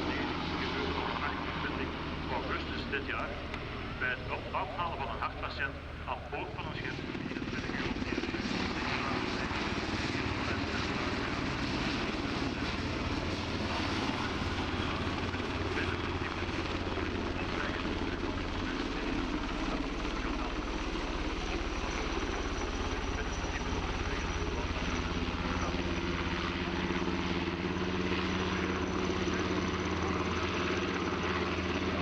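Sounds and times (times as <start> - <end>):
helicopter rotor drone: 0.0 - 32.0
turbine engine rush: 0.0 - 32.0.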